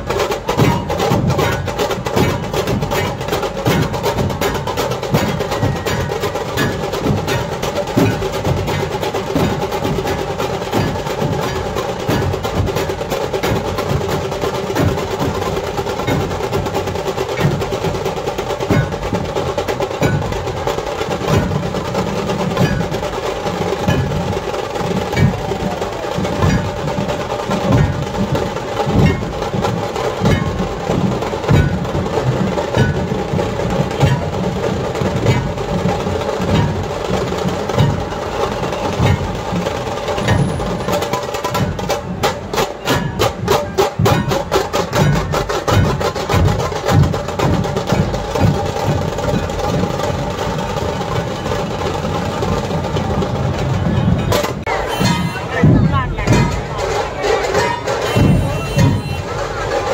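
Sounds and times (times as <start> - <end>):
dhol drums beating: 0.0 - 59.9.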